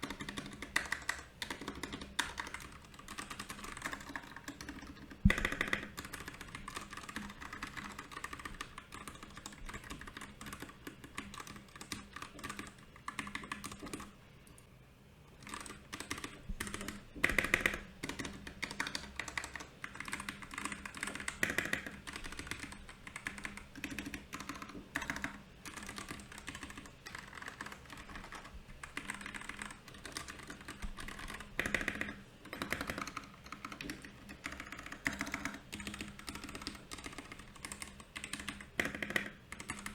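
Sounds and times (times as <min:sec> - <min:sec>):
mechanical keyboard typing: 0:00.0 - 0:14.2, 0:15.4 - 0:39.9.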